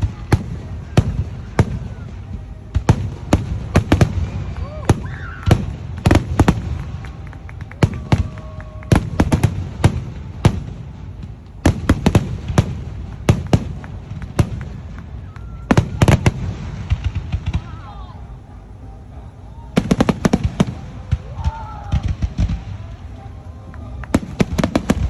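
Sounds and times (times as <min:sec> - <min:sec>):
fireworks bangs and cracks: 0:00.0 - 0:18.0, 0:19.8 - 0:25.0.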